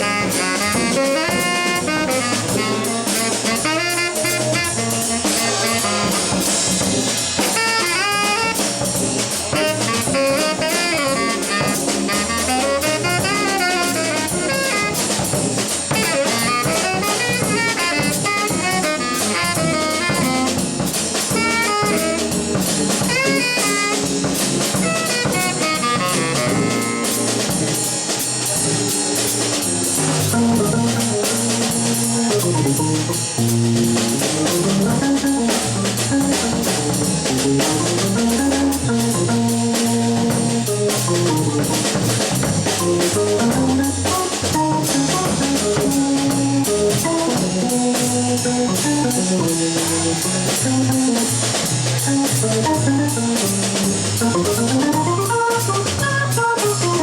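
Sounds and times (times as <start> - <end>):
drum kit cymbals and snare: 0.0 - 57.0
melodic instrument playing fast lines: 0.0 - 57.0.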